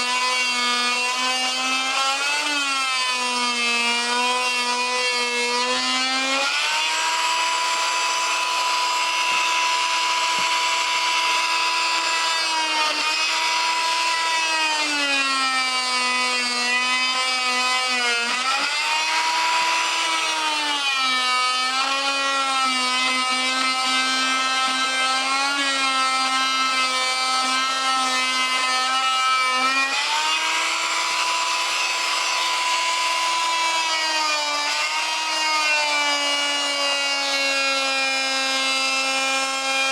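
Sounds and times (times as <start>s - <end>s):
multi-tool cutting rubber: 0.0s - 39.9s.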